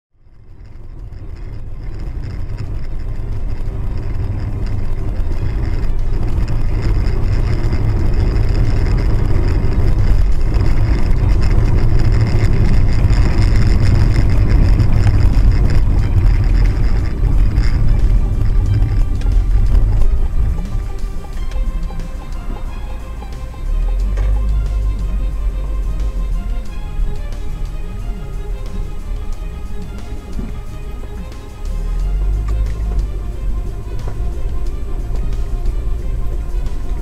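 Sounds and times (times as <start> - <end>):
car road noise on wet road: 0.1 - 37.0.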